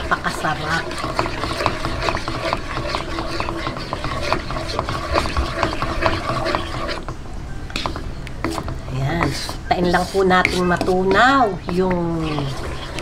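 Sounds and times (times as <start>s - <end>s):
wooden spatula scraping a wok: 0.0s - 13.0s.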